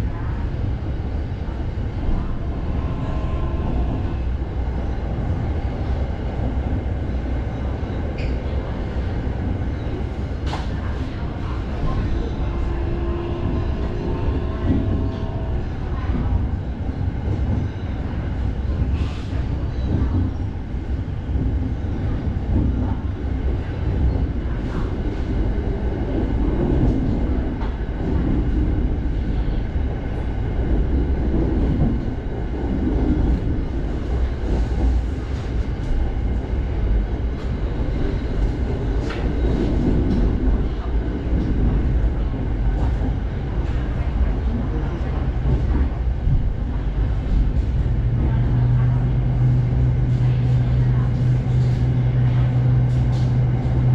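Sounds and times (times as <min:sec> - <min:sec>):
electric train rumbling: 0:00.0 - 0:53.9.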